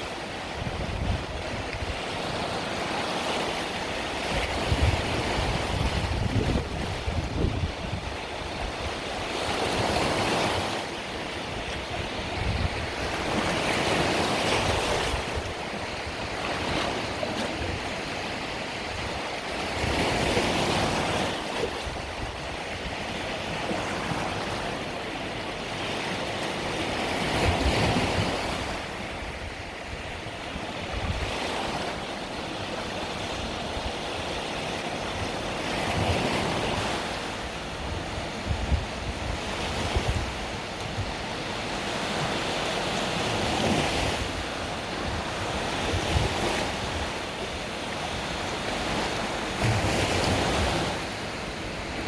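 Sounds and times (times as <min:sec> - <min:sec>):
wind on microphone: 0:00.0 - 0:25.4, 0:26.0 - 0:52.0
small waves breaking on shore: 0:00.0 - 0:52.0.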